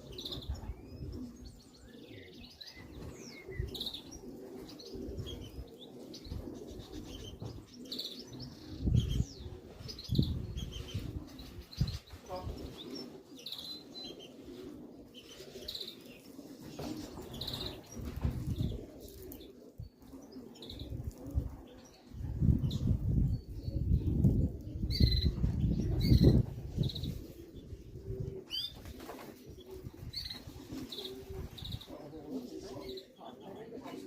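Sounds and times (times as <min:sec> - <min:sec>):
pigeons cooing: 0:00.0 - 0:34.0.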